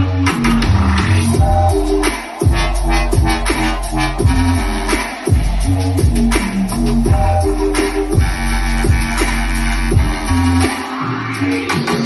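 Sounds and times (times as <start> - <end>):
hip-hop beat with heavy bass: 0.0 - 12.0.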